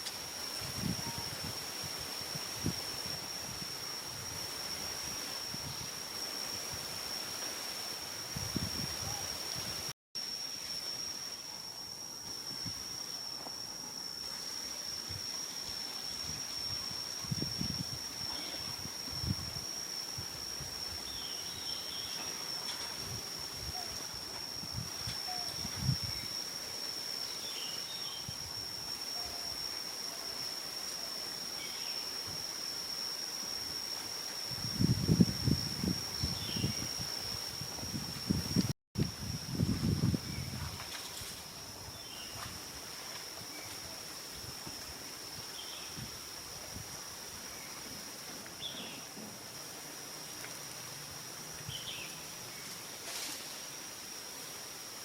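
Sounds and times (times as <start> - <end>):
insect high-pitched trill: 0.0 - 55.0.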